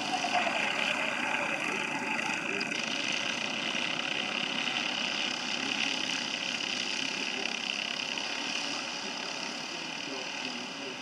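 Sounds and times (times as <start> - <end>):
distant kart engines droning: 0.0 - 11.0.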